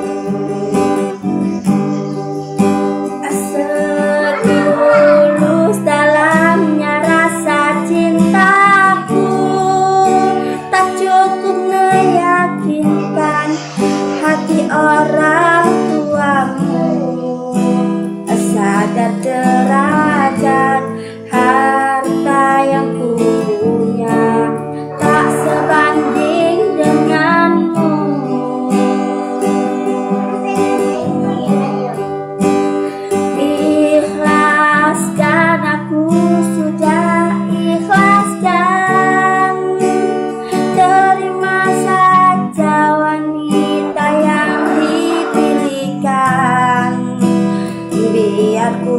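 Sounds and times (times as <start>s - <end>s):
acoustic guitar: 0.0s - 48.9s
woman singing: 0.0s - 48.9s.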